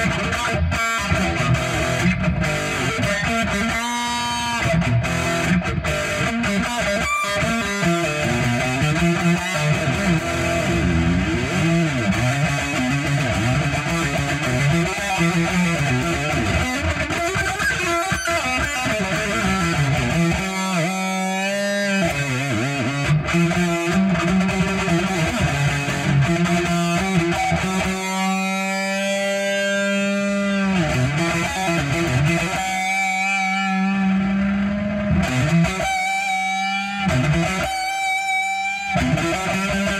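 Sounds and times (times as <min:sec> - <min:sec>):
electric guitar lead with vibrato: 0:00.0 - 0:39.9.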